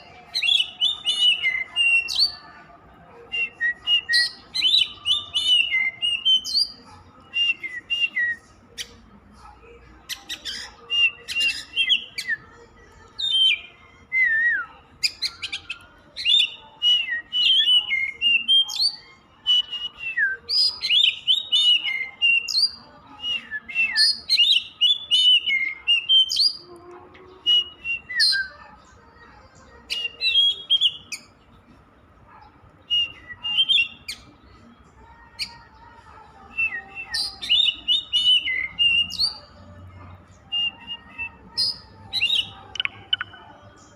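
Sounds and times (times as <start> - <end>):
bird singing whistled song: 0.0 - 2.5, 3.3 - 9.0, 10.1 - 26.6, 27.3 - 28.6, 29.8 - 31.4, 32.2 - 34.6, 36.5 - 39.6, 40.4 - 43.9.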